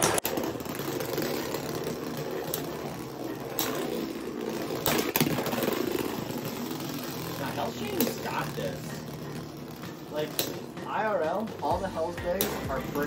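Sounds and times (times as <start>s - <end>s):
spinning tops clacking together: 0.0s - 10.8s, 12.3s - 13.0s
spinning tops whirring and scraping: 0.0s - 13.0s.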